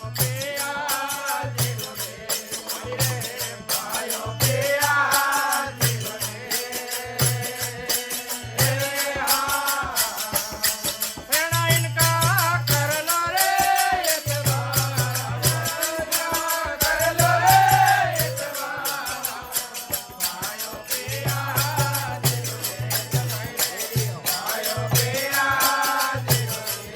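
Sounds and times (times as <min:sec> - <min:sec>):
hand percussion rattle: 0:00.0 - 0:26.9.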